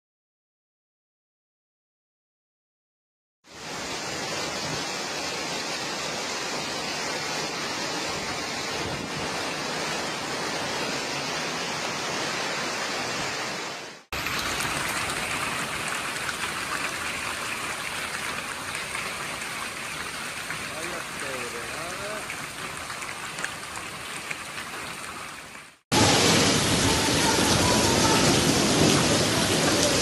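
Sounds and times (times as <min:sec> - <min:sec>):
heavy hail and rain: 0:03.5 - 0:24.8, 0:25.9 - 0:30.0.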